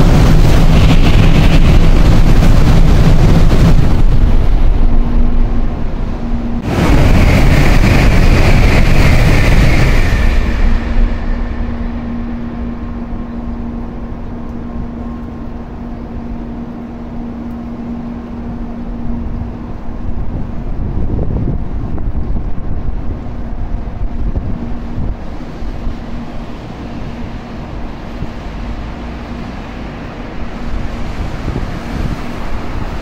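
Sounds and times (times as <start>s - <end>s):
high-speed train passing: 0.0s - 33.0s.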